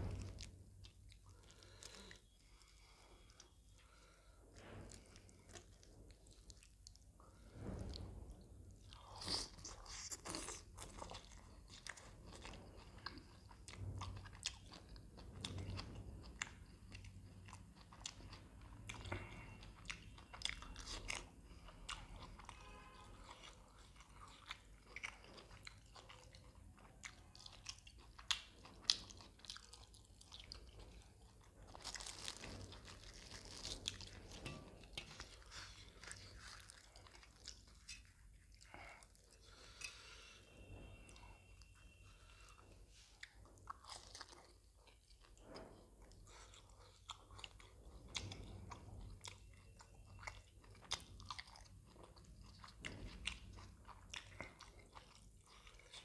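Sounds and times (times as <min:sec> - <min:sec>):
close chewing and biting: 0:00.0 - 0:04.1, 0:04.9 - 0:08.2, 0:08.8 - 0:40.2, 0:43.1 - 0:56.0.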